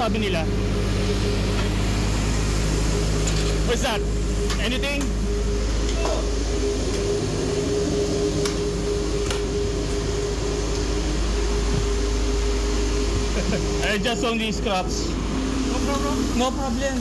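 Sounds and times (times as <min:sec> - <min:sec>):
machinery hum and rumble: 0:00.0 - 0:17.0.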